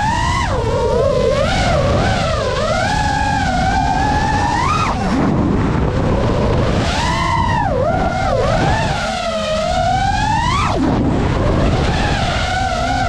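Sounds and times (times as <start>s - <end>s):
drone motors whining: 0.0s - 13.0s
wind and propeller rush: 0.0s - 13.0s.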